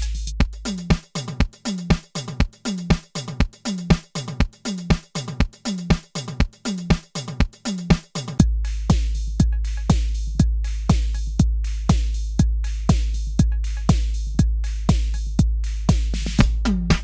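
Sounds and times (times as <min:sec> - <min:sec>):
drum machine beat: 0:00.0 - 0:17.0.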